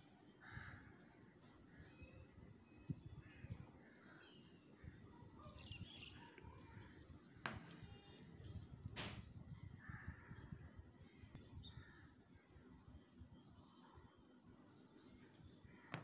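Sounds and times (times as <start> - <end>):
faint distant bird calls: 0.0 - 16.0.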